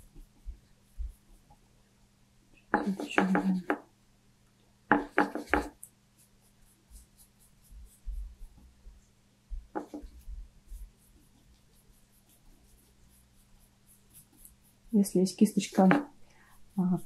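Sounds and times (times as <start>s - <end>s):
paintbrush brushing on paper: 0.0s - 1.7s, 2.5s - 3.9s, 4.9s - 17.0s.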